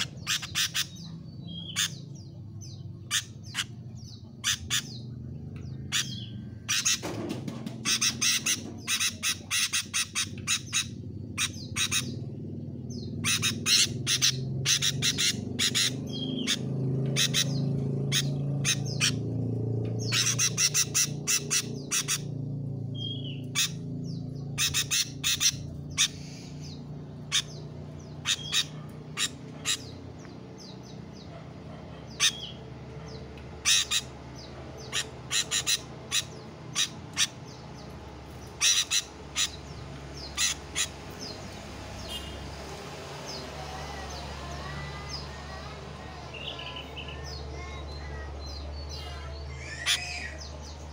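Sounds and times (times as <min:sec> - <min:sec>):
bird giving sharp calls: 0:00.0 - 0:42.6, 0:43.2 - 0:50.9.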